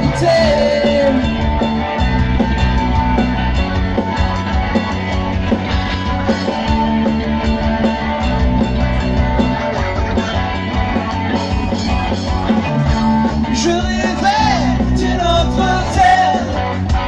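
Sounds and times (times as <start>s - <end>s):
bass guitar: 0.0s - 17.0s
distorted electric guitars: 0.0s - 17.0s
drum kit steady beat: 0.0s - 17.0s.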